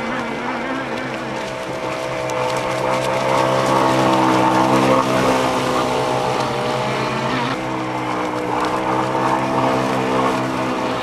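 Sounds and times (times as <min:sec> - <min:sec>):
model boat engine running: 0:00.0 - 0:11.0.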